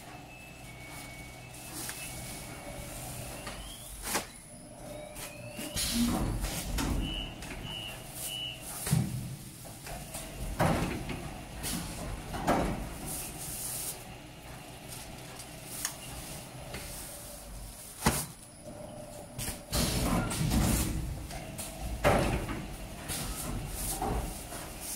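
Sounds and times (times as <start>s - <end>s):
packing machine mechanical clunks: 0.0s - 24.9s.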